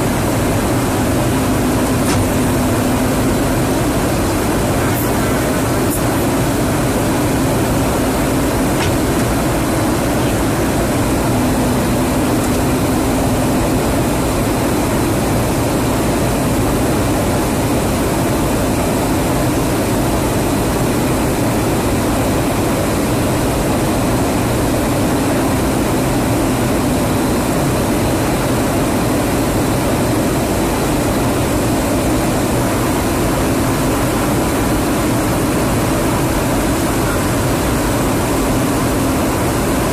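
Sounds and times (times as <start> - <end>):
aircraft engines droning in flight: 0.0 - 39.9.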